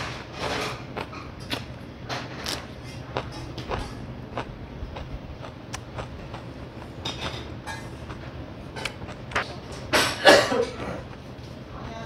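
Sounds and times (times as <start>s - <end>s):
chewing: 0.0s - 9.9s
low steady hum: 0.0s - 12.0s.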